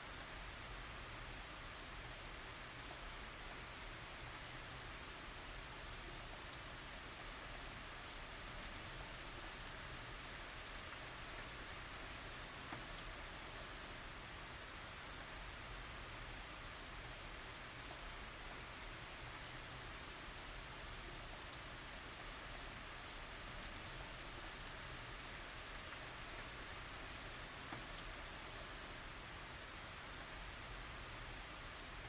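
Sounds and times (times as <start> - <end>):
gentle rain falling: 0.0 - 32.0
raindrops pattering on surfaces: 0.0 - 32.0.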